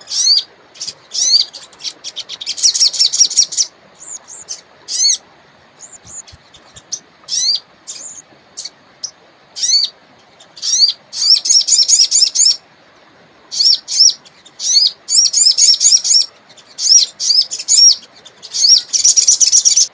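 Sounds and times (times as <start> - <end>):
songbird chirping: 0.0 - 12.6, 13.5 - 19.9
faint river water rushing: 0.0 - 19.0.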